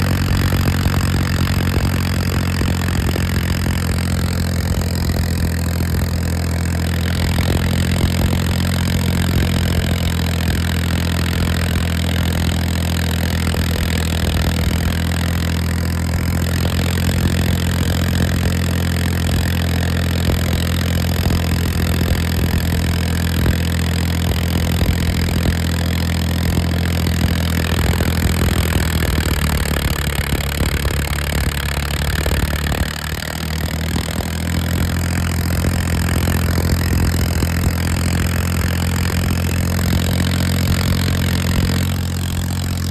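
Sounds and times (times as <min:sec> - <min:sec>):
tractor diesel engine droning: 0:00.0 - 0:42.9.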